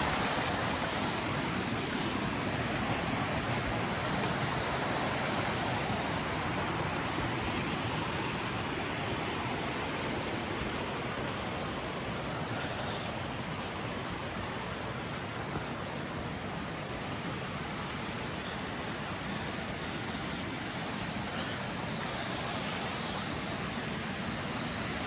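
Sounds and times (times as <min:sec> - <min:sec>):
mountain stream flowing over rocks: 0:00.0 - 0:25.0.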